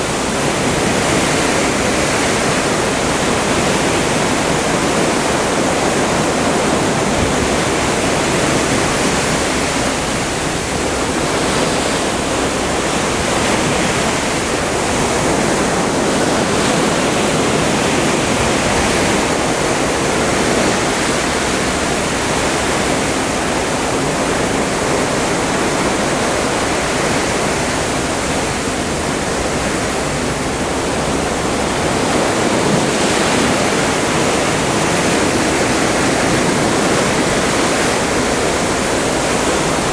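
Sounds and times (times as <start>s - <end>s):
seawater rushing along hull: 0.0s - 39.9s.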